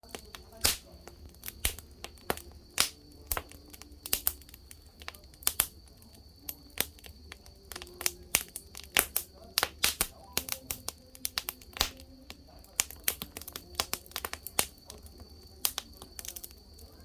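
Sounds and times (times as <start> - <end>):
campfire crackling: 0.0 - 17.0
sharp pops from fire: 0.0 - 17.0.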